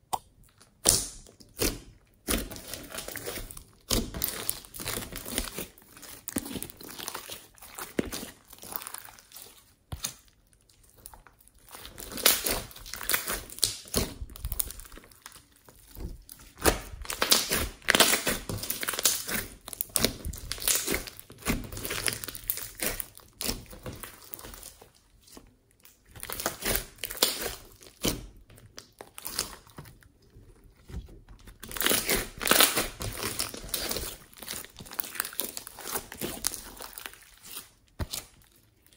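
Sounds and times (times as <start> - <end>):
slime squishing and popping: 0.0 - 30.1, 31.5 - 38.6.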